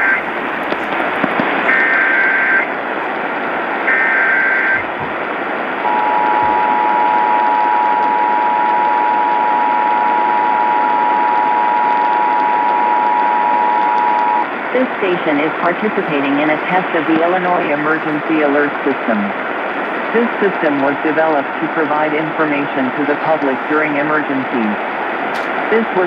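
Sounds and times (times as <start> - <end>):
radio hiss: 0.0 - 26.0.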